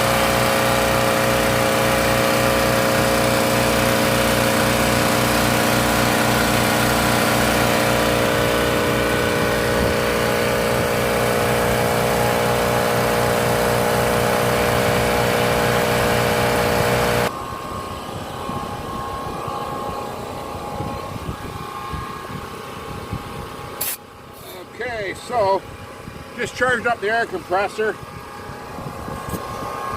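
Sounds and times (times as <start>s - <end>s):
air compressor running: 0.0s - 29.9s
generator engine running: 0.0s - 29.9s.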